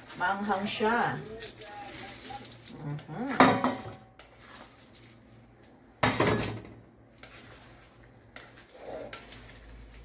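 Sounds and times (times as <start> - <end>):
wooden spatula stirring in wok: 0.0 - 5.4, 6.1 - 10.0.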